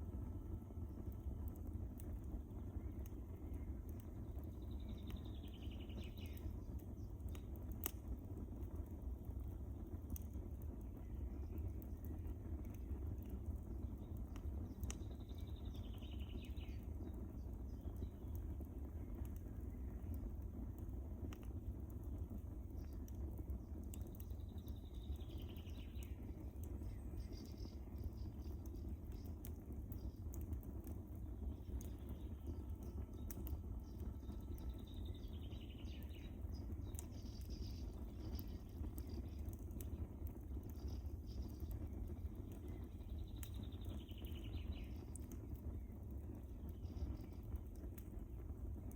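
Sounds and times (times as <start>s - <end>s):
fire crackling and popping: 0.0s - 48.9s
fire flames rumbling: 0.0s - 48.9s.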